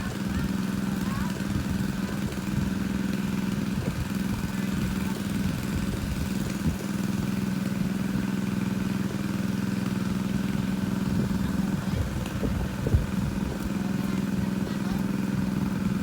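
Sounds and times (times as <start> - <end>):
water pump engine droning: 0.0 - 16.0.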